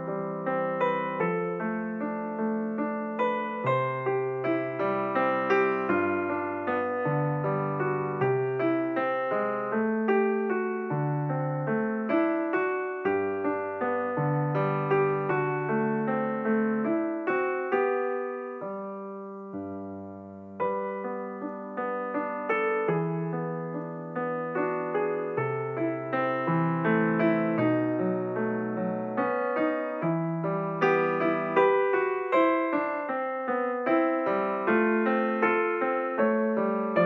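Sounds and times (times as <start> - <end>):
slow piano music: 0.0 - 37.0.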